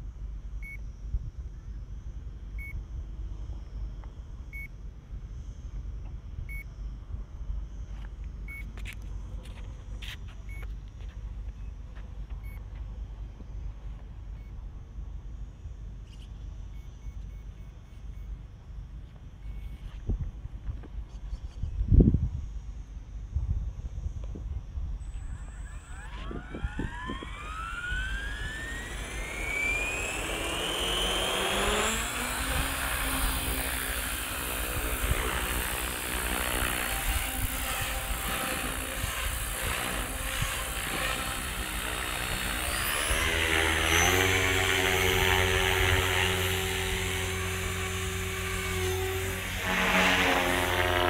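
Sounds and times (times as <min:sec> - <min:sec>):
rc helicopter motor whine: 0:00.0 - 0:51.0.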